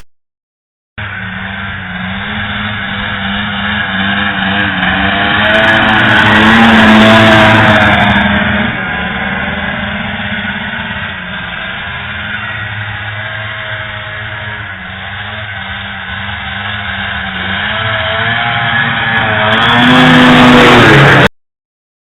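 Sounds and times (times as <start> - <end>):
snowmobile engine running: 1.0 - 21.3.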